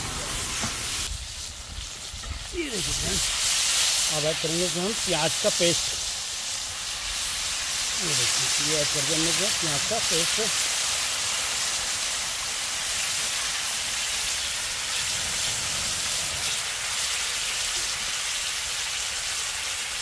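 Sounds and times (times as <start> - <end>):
onion sizzling in hot oil: 0.0 - 20.0.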